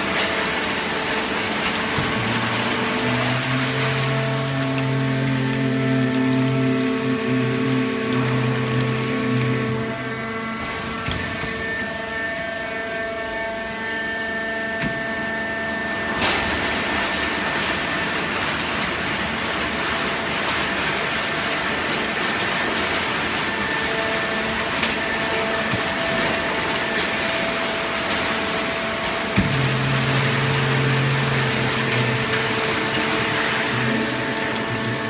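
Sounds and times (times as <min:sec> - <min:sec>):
baling press machine humming: 0:00.0 - 0:35.0.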